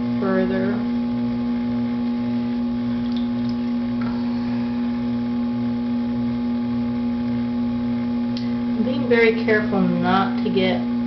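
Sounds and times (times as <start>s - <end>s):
potter's wheel motor humming: 0.0s - 11.0s.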